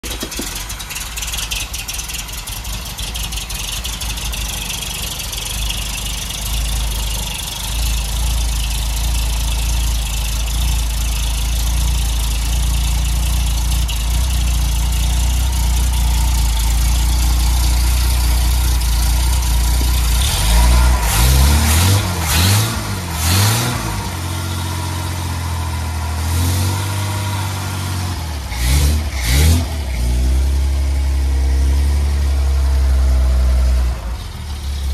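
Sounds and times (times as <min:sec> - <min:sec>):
engine running on open exhaust: 0:00.0 - 0:34.9.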